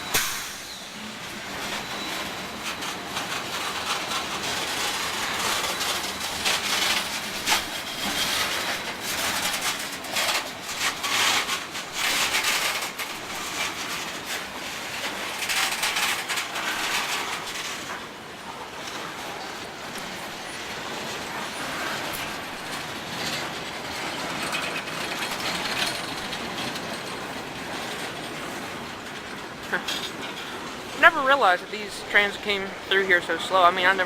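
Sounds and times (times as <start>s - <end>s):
train wheels clacking on rail joints: 0.0s - 32.9s
steel on rail rumble and scrape: 0.0s - 34.0s.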